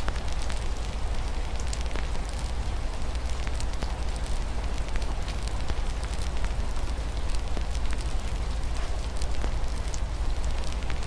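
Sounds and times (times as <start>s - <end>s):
rain hissing against a window: 0.0s - 11.0s
wood fire crackling: 0.0s - 11.0s.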